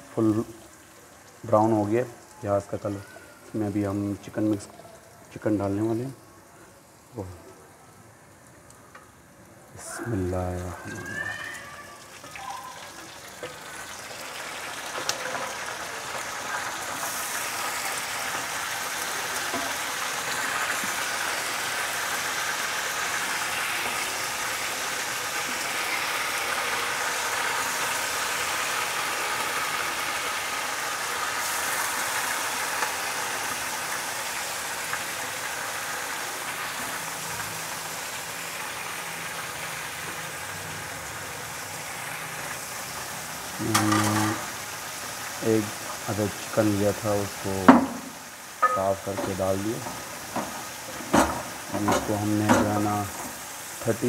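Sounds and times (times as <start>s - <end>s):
chicken sizzling in hot fat: 0.0s - 54.0s.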